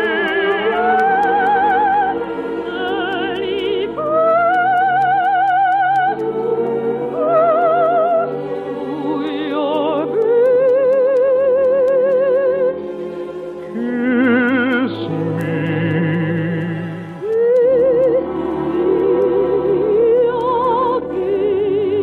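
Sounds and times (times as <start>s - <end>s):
operetta singing: 0.0s - 22.0s
orchestral accompaniment: 0.0s - 22.0s.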